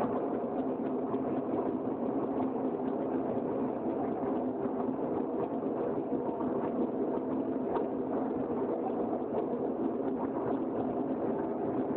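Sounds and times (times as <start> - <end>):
faint hum: 0.0 - 11.9.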